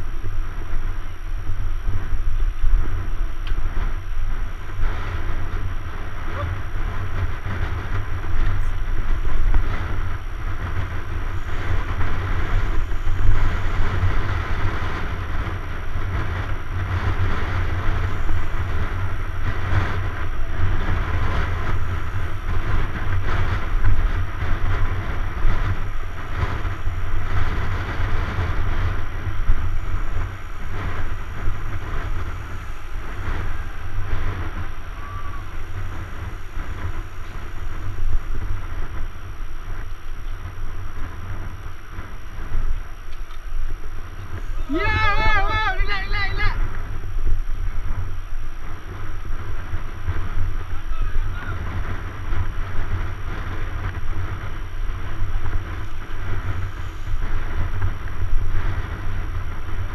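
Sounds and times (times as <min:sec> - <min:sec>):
bicycle tyres rolling on asphalt: 0:00.0 - 0:59.9
wind rumble on microphone: 0:00.0 - 0:59.9.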